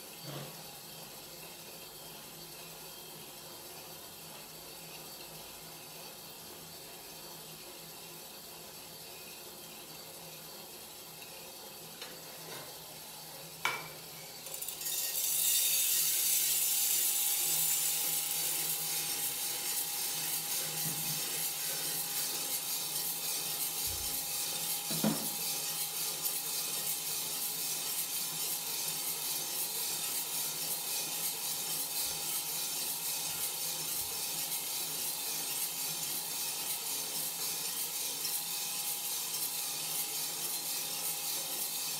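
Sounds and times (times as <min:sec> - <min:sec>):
coffee roaster rasping hiss: 0:00.0 - 0:41.9.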